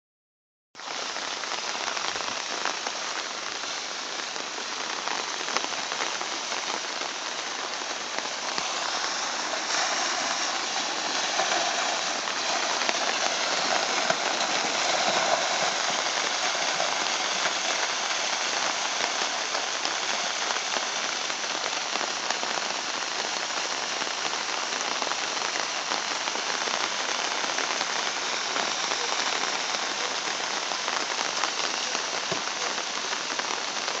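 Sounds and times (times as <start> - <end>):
runoff water streaming: 0.8 - 34.0
steady rain: 0.8 - 34.0.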